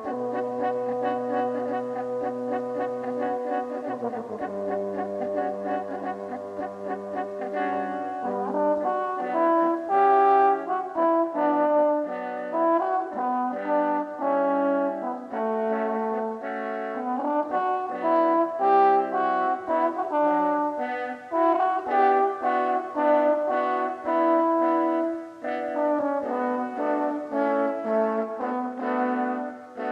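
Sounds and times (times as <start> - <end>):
french horns playing in harmony: 0.0 - 29.9.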